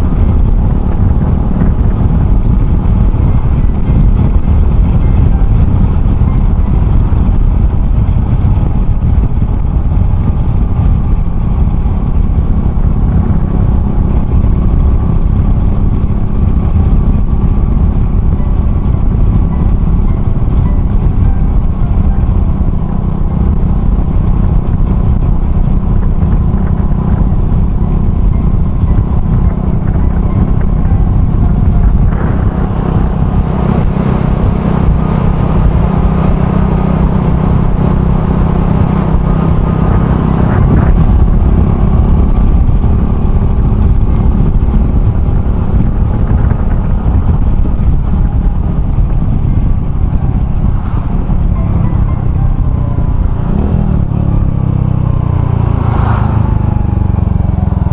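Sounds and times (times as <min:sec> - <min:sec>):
motorcycle engine running: 0:00.0 - 0:57.9
road noise: 0:00.0 - 0:57.9
wind noise: 0:00.0 - 0:57.9.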